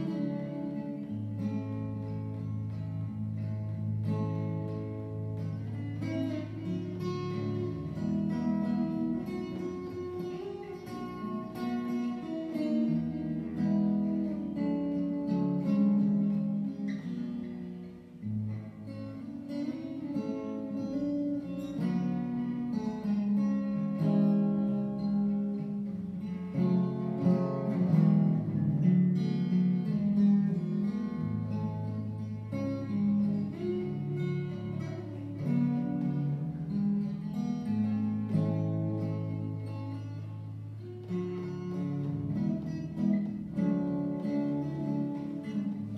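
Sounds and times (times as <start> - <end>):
acoustic guitar instrumental: 0.0 - 45.9.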